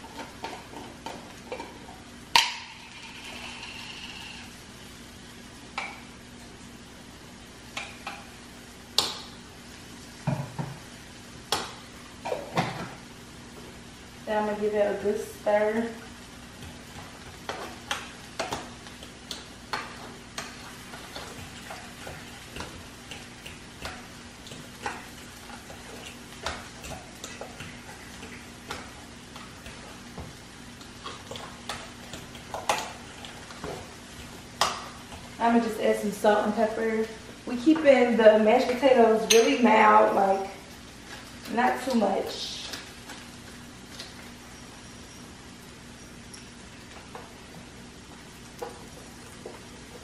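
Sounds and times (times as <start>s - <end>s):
frying pan sizzle: 0.0s - 50.0s
low steady hum: 0.0s - 50.0s.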